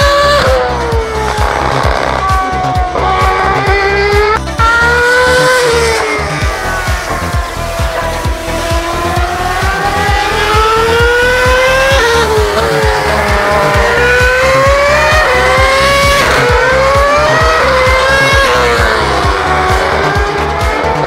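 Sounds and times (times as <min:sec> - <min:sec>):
racing car engine at full throttle: 0:00.0 - 0:21.0.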